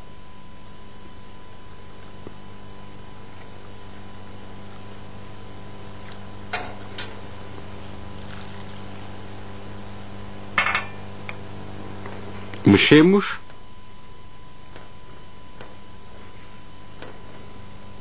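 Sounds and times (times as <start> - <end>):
background hum: 0.0 - 18.0
thin high whine: 0.0 - 18.0.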